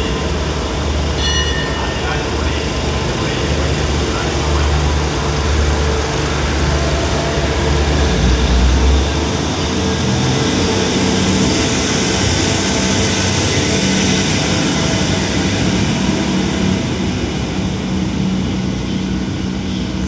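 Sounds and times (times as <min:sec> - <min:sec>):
train engines humming: 0:00.0 - 0:20.0
wheels rumbling on rail: 0:00.0 - 0:20.0.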